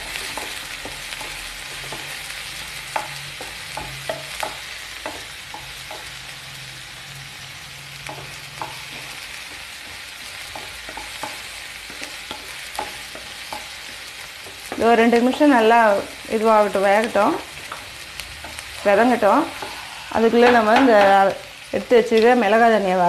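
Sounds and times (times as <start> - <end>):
spatula scraping and tapping pan: 0.0 - 6.3, 8.0 - 15.4, 16.0 - 21.3
onions sizzling in oil: 0.0 - 23.0.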